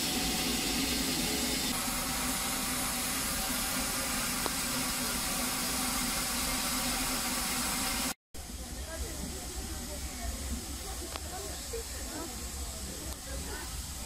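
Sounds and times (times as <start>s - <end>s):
steam hissing: 0.0s - 14.0s.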